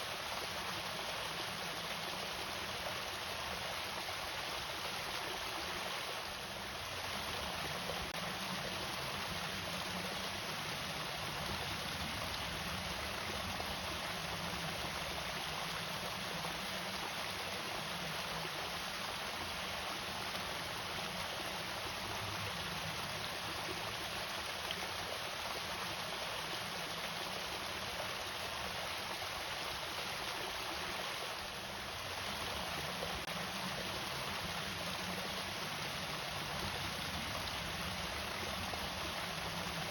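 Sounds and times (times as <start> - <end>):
water rushing over small waterfall: 0.0 - 39.9.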